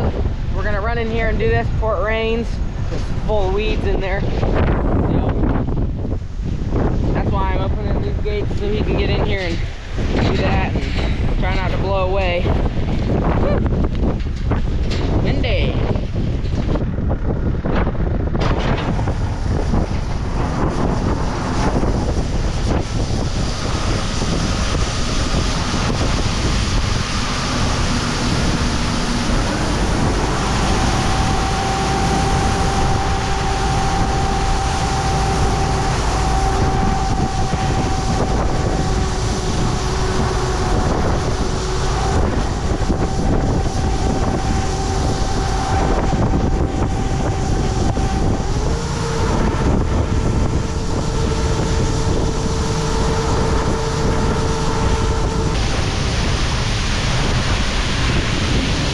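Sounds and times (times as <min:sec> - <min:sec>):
faint steady whine: 0:00.0 - 0:58.9
tractor engine running: 0:00.0 - 0:58.9
wind buffeting microphone: 0:00.0 - 0:58.9.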